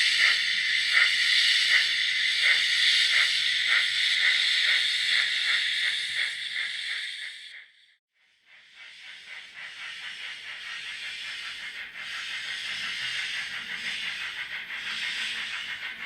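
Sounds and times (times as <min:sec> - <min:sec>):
model steam locomotive hissing: 0:00.0 - 0:07.8, 0:08.5 - 0:16.0.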